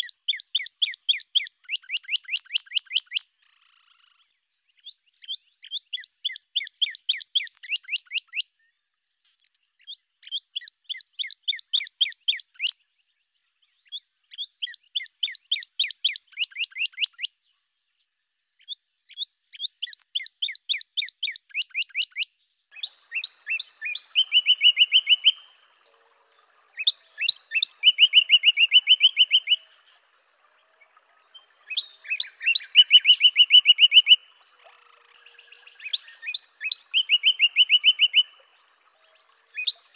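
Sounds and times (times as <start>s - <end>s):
bird singing whistles and trills: 0.0s - 8.8s, 9.8s - 17.4s, 18.6s - 39.9s.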